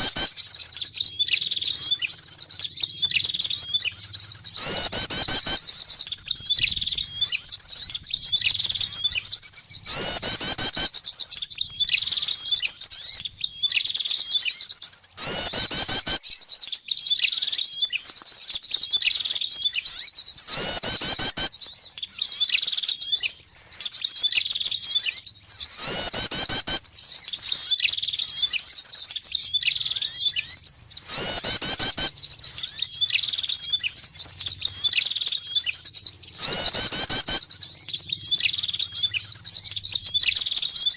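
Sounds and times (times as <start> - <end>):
loud sweeping bird call: 0.0 - 40.9
songbirds chirping rapidly: 0.0 - 40.9.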